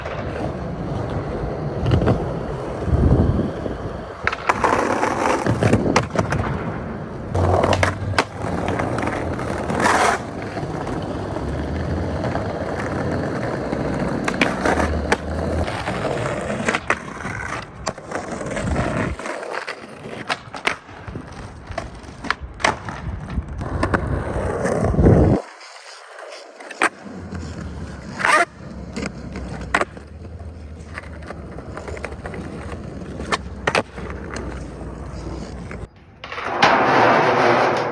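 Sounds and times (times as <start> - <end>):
skateboard clacking on ground: 0.0 - 37.9
skateboard wheels rolling: 0.0 - 37.9.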